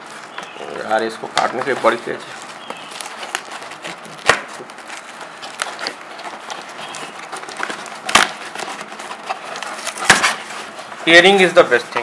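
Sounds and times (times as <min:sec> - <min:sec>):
rustling of tape and cardboard: 0:00.0 - 0:12.0.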